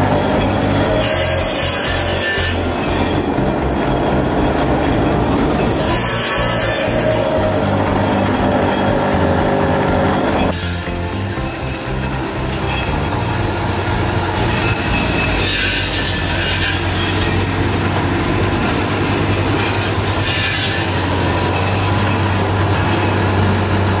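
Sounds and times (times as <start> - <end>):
motor hum: 0.0 - 24.0
saw rasping through wood: 0.0 - 24.0
wood clattering on conveyor: 0.0 - 24.0.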